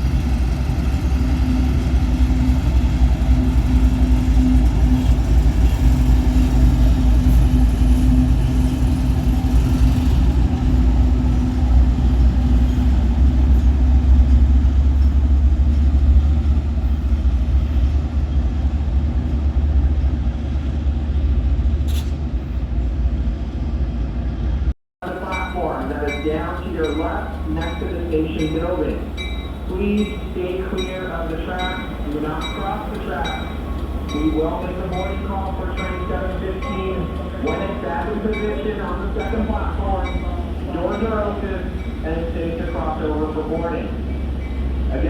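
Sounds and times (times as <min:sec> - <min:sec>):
diesel locomotive engine running: 0:00.0 - 0:45.0.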